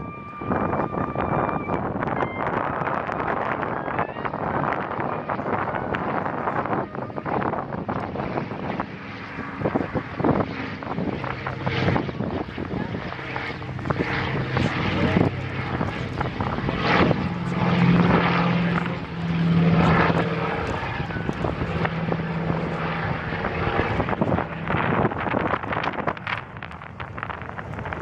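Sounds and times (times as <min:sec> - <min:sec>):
propeller plane flying past: 0:00.0 - 0:28.0.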